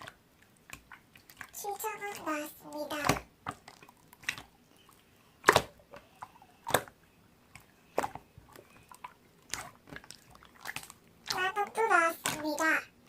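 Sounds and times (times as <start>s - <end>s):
squishy slime sounds: 0.0s - 13.0s.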